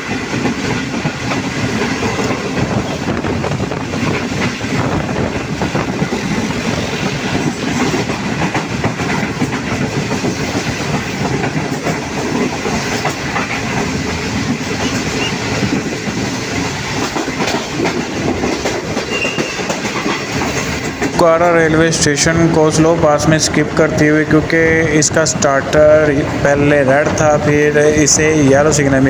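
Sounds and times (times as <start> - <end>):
passenger train rumbling: 0.0 - 29.0
wheels clacking over rail joints: 0.0 - 29.0.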